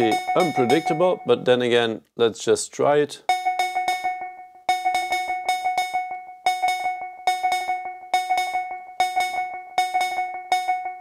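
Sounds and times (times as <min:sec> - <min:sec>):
synthesizer metallic cowbell-like notes: 0:00.0 - 0:01.7, 0:03.3 - 0:11.0.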